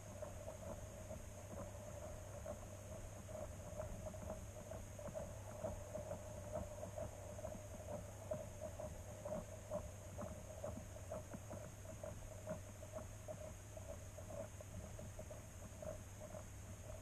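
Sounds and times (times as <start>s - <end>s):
faint ticks and crackles: 0.0s - 17.0s.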